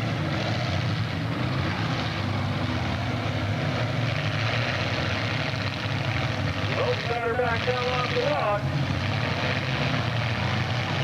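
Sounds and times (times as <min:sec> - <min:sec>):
car engines running together: 0:00.0 - 0:11.0.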